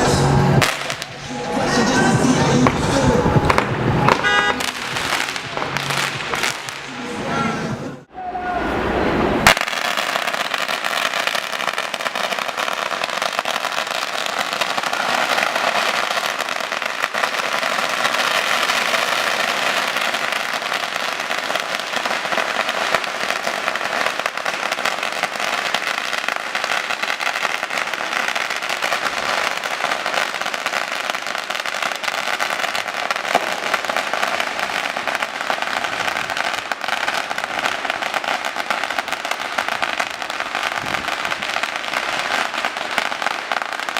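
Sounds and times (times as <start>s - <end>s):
firecrackers crackling: 0.0s - 43.9s.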